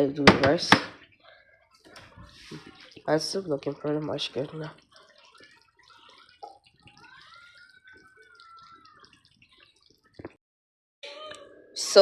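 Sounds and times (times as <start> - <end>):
soup bubbling and crackling: 0.0 - 10.4.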